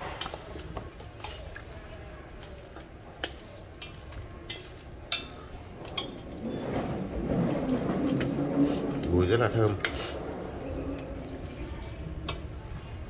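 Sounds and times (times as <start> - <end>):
wet meat shifting and rustling: 0.0 - 13.0.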